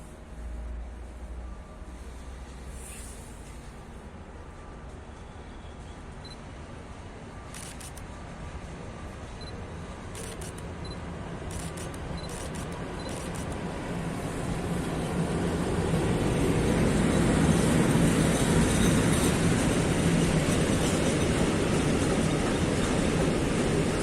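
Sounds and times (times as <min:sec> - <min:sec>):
freight train passing: 0:00.0 - 0:24.0.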